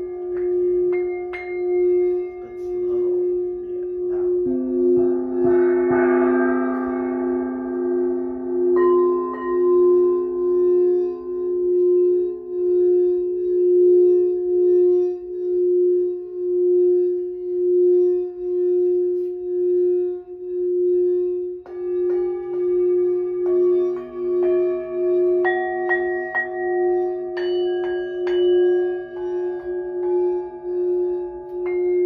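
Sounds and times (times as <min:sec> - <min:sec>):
singing bowl pulsing tone: 0:00.0 - 0:32.0
singing bowls struck: 0:00.0 - 0:32.0.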